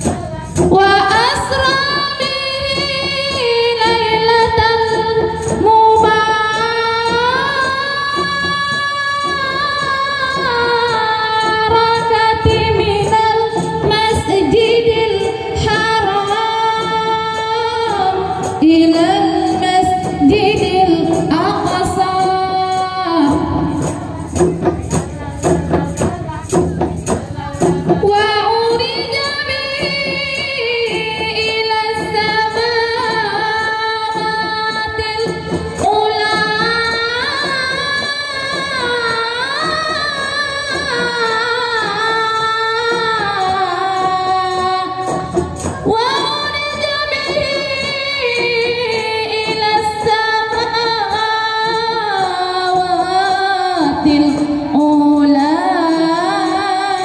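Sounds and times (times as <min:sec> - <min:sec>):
frame drums: 0:00.0 - 0:57.0
tambourine jingles: 0:00.0 - 0:57.0
woman singing into microphone: 0:00.0 - 0:57.0.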